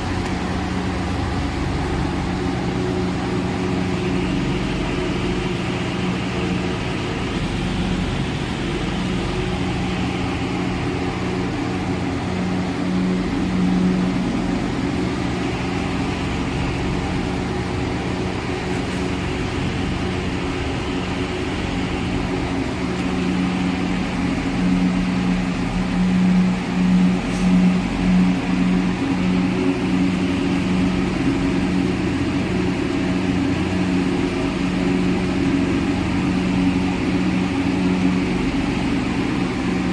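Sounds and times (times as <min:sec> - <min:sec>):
motor humming with low drone: 0:00.0 - 0:39.9.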